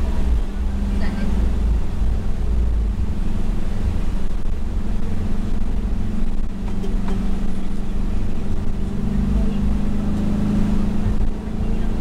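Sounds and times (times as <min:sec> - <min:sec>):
road rumble: 0:00.0 - 0:12.0
van engine hum: 0:00.0 - 0:12.0.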